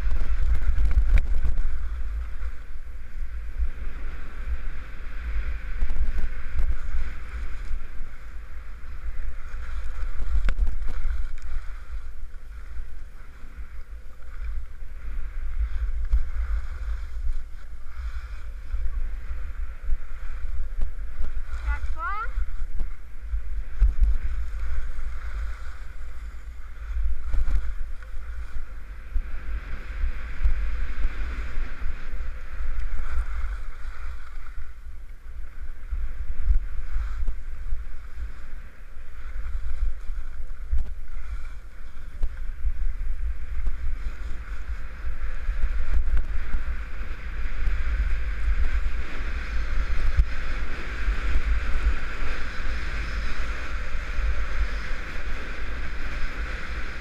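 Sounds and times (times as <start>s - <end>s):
skis sliding on packed snow: 0.0s - 57.0s
wind buffeting microphone: 0.0s - 57.0s.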